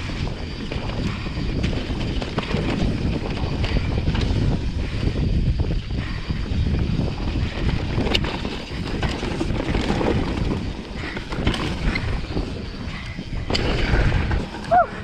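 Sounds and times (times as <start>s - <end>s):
bike rattling over rocky ground: 0.0s - 15.0s
wind rushing over microphone: 0.0s - 15.0s.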